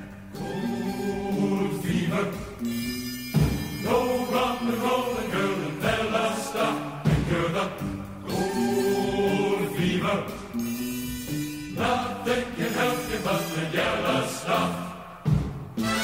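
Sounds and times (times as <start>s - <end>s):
choir singing film music: 0.0s - 16.0s.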